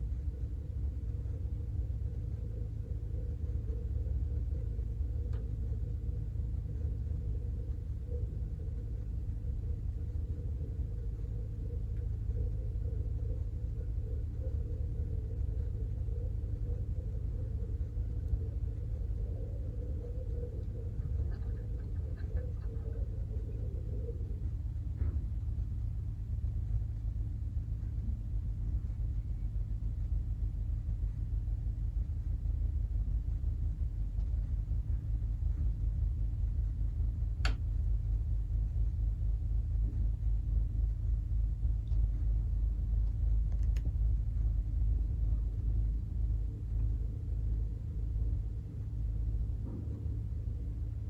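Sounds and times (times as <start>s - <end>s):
air conditioner rumble: 0.0s - 51.0s.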